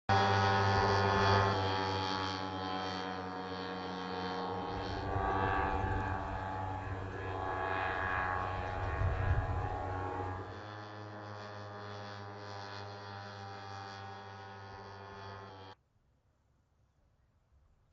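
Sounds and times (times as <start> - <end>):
drone propeller engine whine: 0.0 - 15.8.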